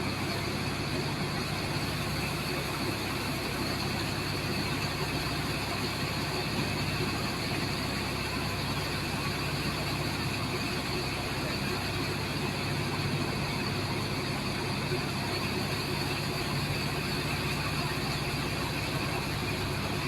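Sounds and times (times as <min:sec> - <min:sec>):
pump engine drone: 0:00.0 - 0:20.0.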